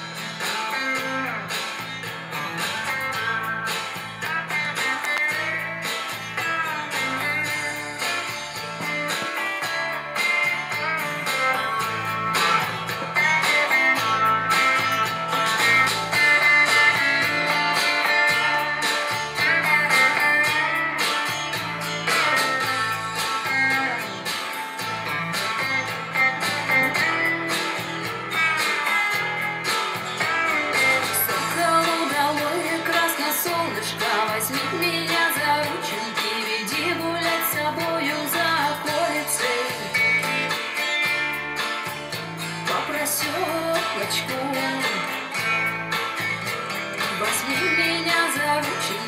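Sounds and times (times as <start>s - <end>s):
guitar music from loudspeakers: 0.0s - 49.0s
pop song through speakers: 0.0s - 49.0s.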